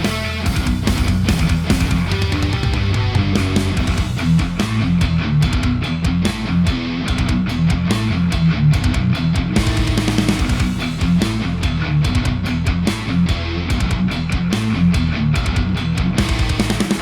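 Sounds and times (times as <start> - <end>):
heavy guitar rock music: 0.0 - 17.0.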